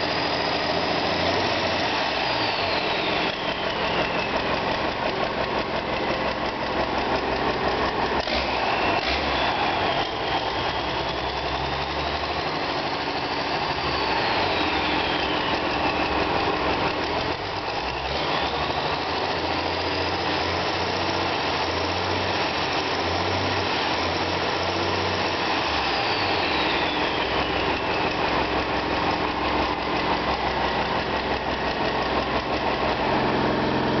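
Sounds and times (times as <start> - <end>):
diesel engine revving: 0.0 - 34.0
turbocharger whine: 0.0 - 34.0.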